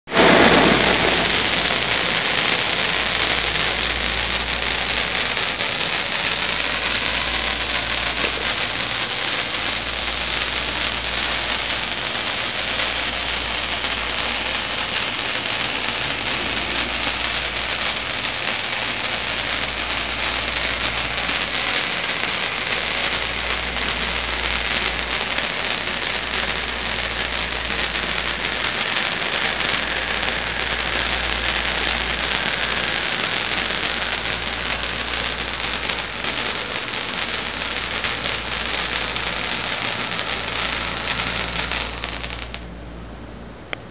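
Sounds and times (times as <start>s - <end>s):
spark fountain hissing: 0.1s - 42.7s.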